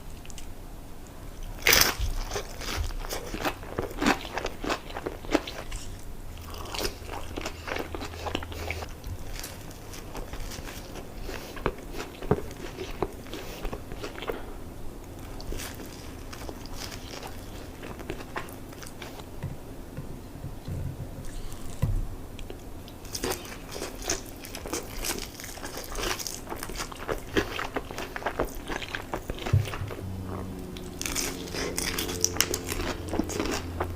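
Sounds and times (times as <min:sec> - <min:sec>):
crunchy food chewing: 0:01.4 - 0:14.5, 0:15.1 - 0:19.3, 0:22.4 - 0:33.9.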